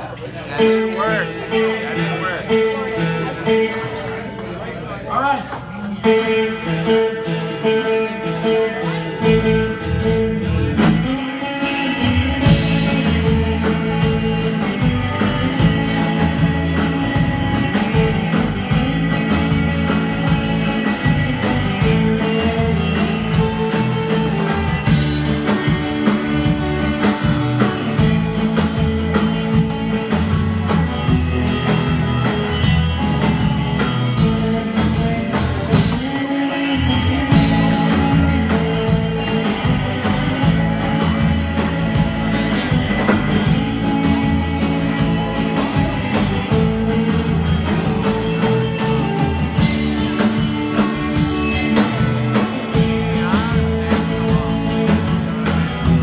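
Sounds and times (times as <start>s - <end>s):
electric guitars: 0.0s - 4.7s, 5.4s - 56.0s.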